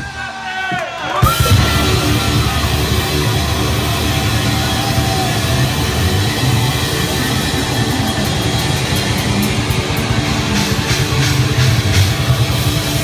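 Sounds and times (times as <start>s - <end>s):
bass guitar: 1.2s - 13.0s
distorted electric guitar: 1.2s - 13.0s
drum kit: 1.2s - 13.0s.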